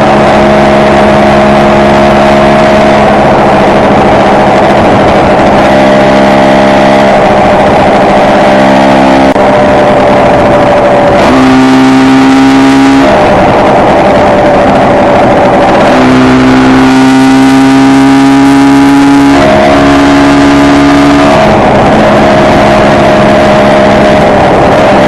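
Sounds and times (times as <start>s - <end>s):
two-stroke engine running: 0.0s - 25.0s.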